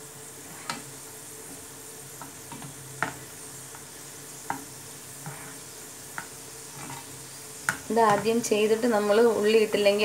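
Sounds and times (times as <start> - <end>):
nuts sizzling in hot oil: 0.0 - 10.0.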